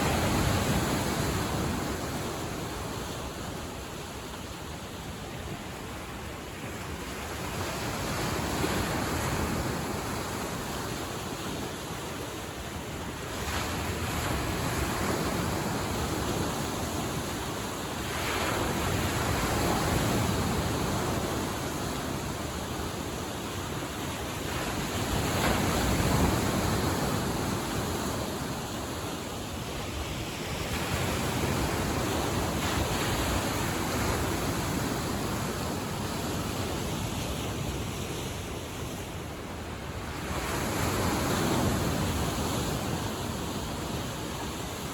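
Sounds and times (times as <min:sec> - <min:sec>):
waves washing onto shore: 0:00.0 - 0:44.9.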